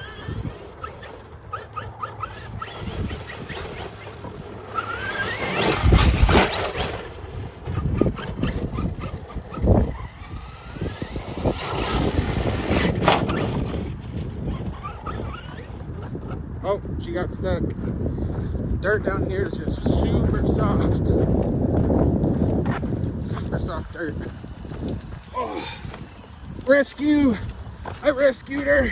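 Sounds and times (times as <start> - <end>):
electric motor whining: 0.0 - 28.9.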